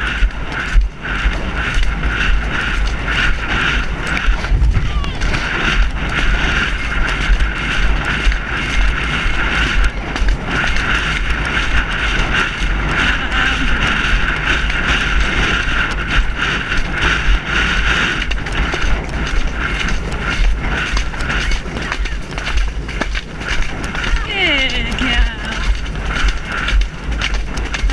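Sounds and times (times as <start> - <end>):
low rumble: 0.0 - 27.9
wind noise on microphone: 0.0 - 27.9.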